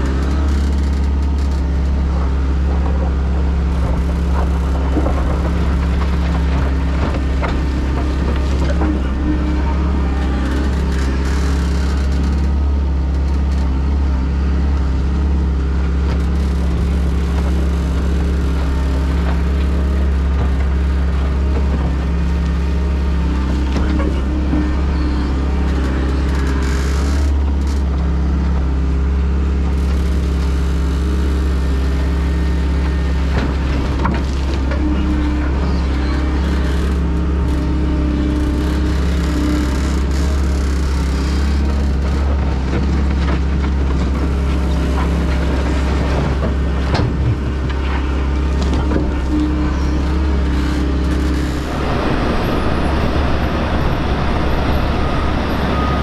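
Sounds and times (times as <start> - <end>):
excavator diesel engine drone: 0.0 - 56.0.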